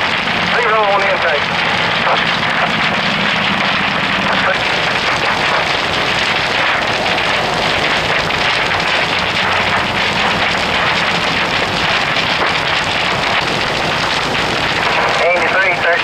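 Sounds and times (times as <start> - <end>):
building fire crackling: 0.0 - 16.0.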